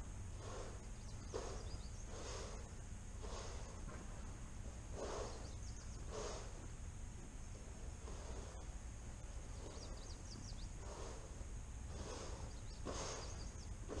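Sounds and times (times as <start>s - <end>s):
alpaca puffing and rustling at hay: 0.0s - 6.8s, 7.6s - 14.0s
barn fan humming: 0.0s - 14.0s.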